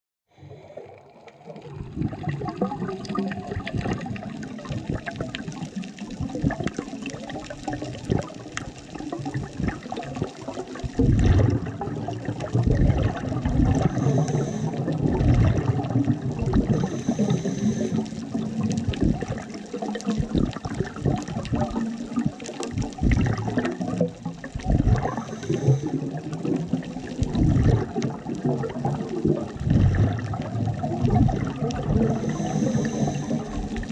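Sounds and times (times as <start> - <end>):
underwater bubbles gurgling: 0.3 - 33.9.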